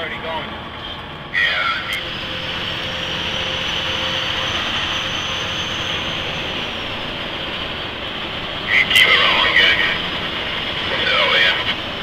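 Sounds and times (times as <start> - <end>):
truck road and engine noise: 0.0 - 12.0
faint high whine: 0.8 - 12.0.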